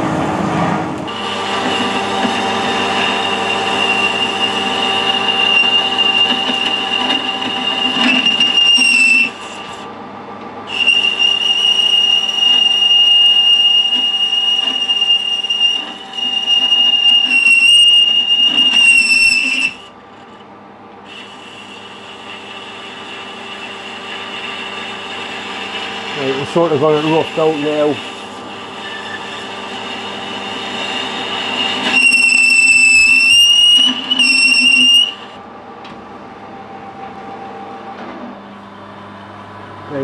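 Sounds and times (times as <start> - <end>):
lathe running: 0.0 - 9.8, 10.7 - 19.9, 21.1 - 35.4
boring tool squealing: 1.1 - 9.8, 10.7 - 19.9, 21.1 - 35.4.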